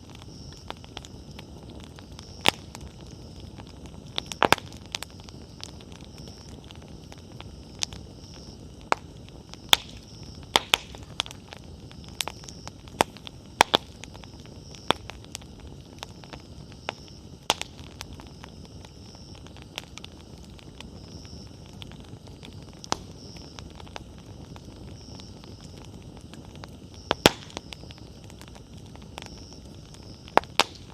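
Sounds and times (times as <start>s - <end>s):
campfire crackling: 0.0s - 30.9s.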